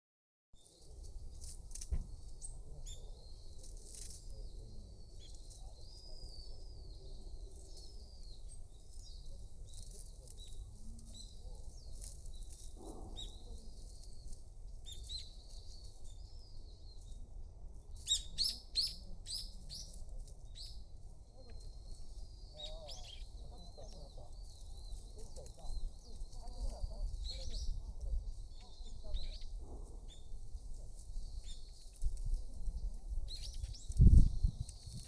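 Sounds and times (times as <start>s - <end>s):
small birds chirping: 0.6s - 35.0s.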